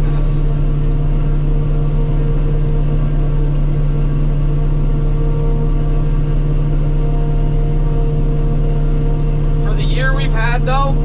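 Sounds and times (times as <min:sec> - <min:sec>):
harvester engine and cutterhead drone: 0:00.0 - 0:11.0.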